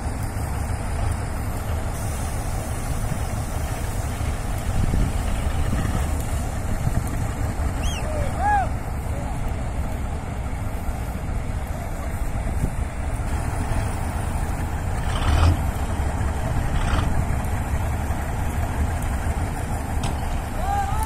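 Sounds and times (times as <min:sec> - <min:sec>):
diesel tractor engines idling: 0:00.0 - 0:21.0.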